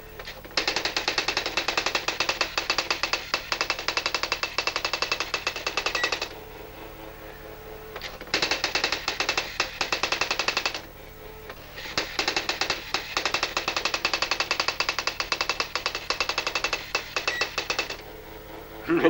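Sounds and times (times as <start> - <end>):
faint steady hum: 0.0 - 19.0
electronic typewriter printing: 0.2 - 6.4, 7.9 - 10.9, 11.5 - 18.1.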